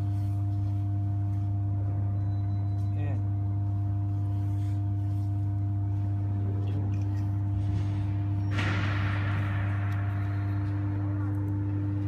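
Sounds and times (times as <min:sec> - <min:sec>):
deep electrical hum: 0:00.0 - 0:12.0.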